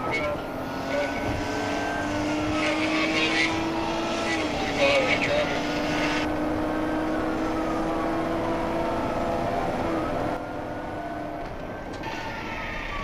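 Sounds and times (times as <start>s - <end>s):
car engine drone: 0.0s - 13.0s
police siren wailing: 0.0s - 13.0s
road noise: 0.0s - 13.0s.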